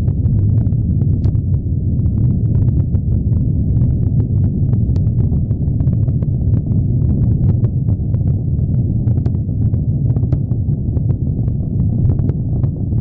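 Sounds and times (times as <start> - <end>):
rocket engines rumbling and crackling: 0.0 - 13.0.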